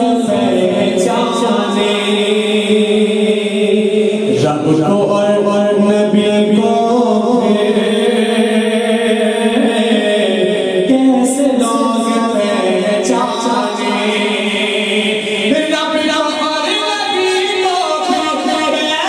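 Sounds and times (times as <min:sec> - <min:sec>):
man singing: 0:00.0 - 0:19.0.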